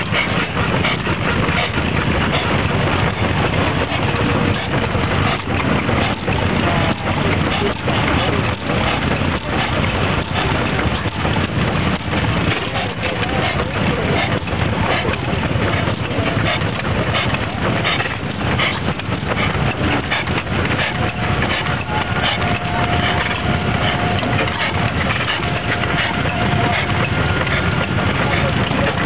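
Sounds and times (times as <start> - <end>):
oil engine running with knocks: 0.0 - 29.0
valve gear clatter: 0.0 - 29.0.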